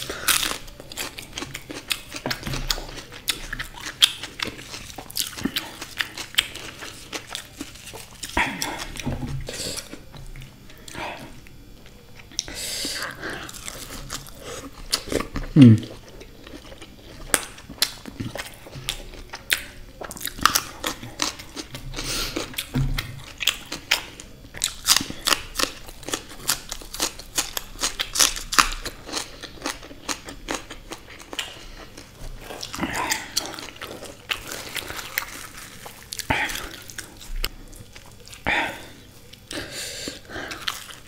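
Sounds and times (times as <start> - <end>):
crunchy chewing of food: 0.0 - 41.0.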